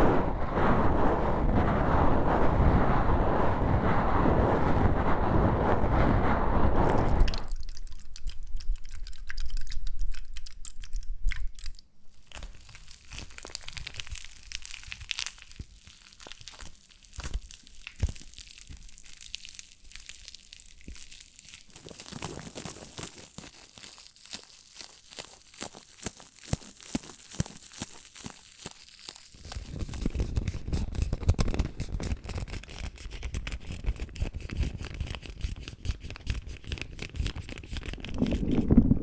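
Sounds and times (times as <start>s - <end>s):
close crinkling and crackling: 7.2s - 39.0s.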